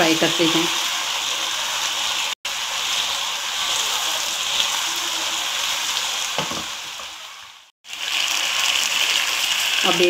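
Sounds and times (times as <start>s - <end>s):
oil sizzling: 0.0s - 10.0s.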